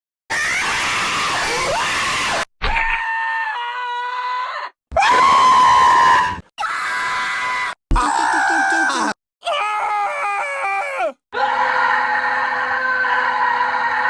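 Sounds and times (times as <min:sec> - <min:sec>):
cartoon scream sound effects: 0:00.3 - 0:14.0.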